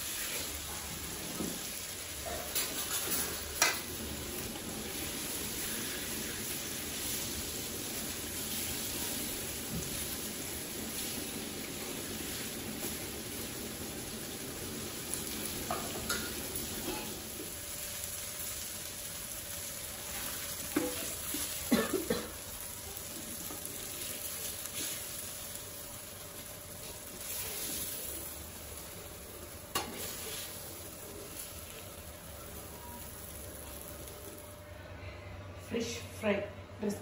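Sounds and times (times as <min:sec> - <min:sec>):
fish sizzling in oil: 0:00.0 - 0:34.5.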